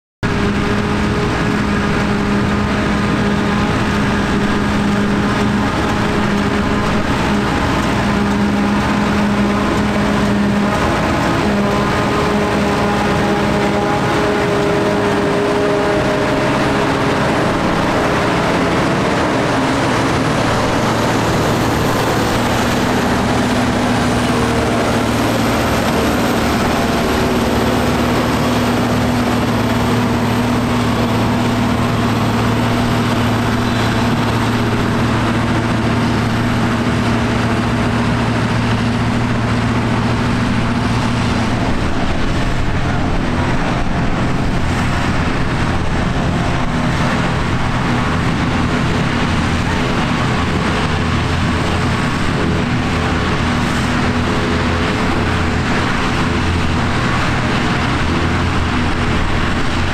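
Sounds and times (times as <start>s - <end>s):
harvester diesel engines: 0.2s - 59.9s
tractors working: 0.2s - 59.9s.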